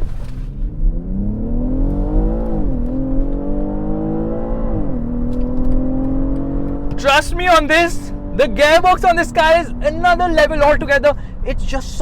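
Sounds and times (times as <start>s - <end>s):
car engine accelerating hard: 0.0s - 10.8s.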